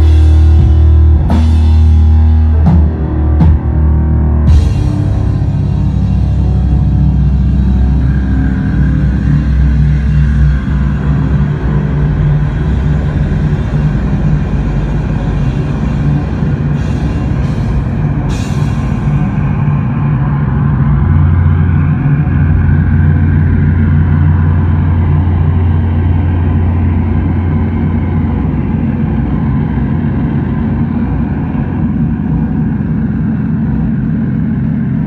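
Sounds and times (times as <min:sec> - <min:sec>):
guitar amplifier feedback drone: 0:00.0 - 0:35.0.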